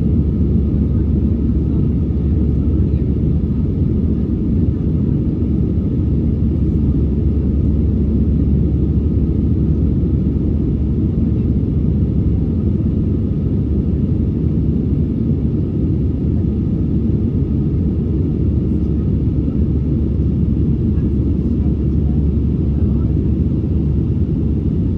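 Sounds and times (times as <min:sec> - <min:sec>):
airplane cabin rumble: 0:00.0 - 0:24.9.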